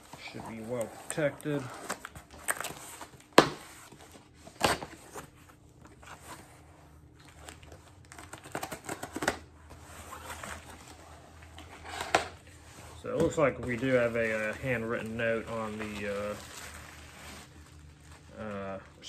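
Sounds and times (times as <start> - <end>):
packaging rustling and tearing: 0.0 - 19.0.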